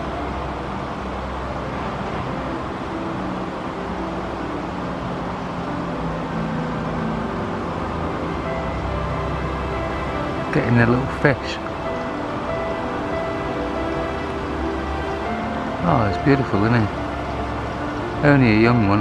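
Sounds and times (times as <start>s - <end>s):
background music: 0.0s - 19.0s
river water rushing: 0.0s - 19.0s.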